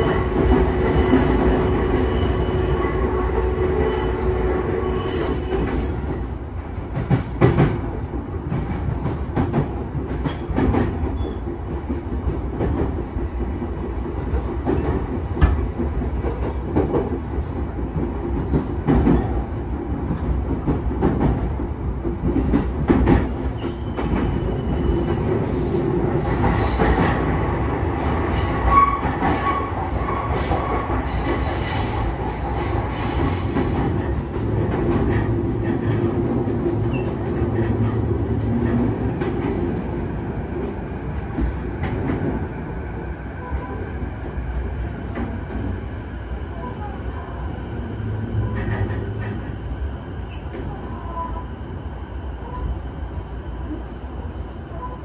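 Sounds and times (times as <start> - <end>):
train running rumble: 0.0 - 51.9.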